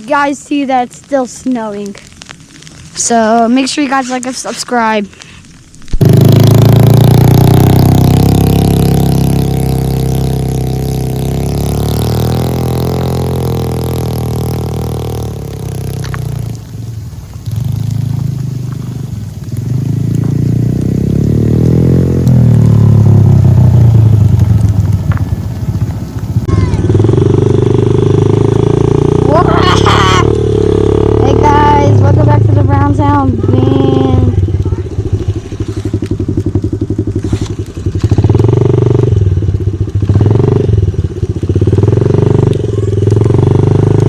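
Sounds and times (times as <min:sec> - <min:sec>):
dirt bike engine revving: 0:06.0 - 0:39.3, 0:40.1 - 0:44.0.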